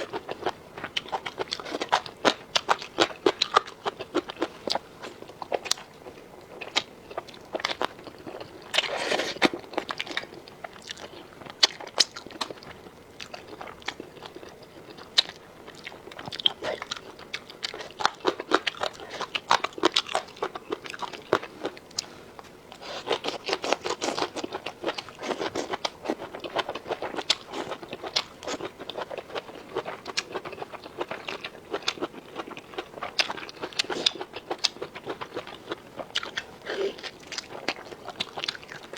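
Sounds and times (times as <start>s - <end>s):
person chewing and crunching food: 0.0s - 38.9s.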